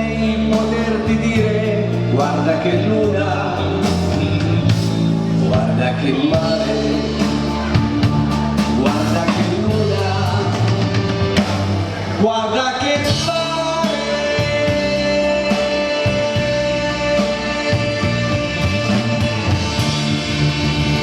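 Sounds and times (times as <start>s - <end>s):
live dance band playing: 0.0s - 21.0s.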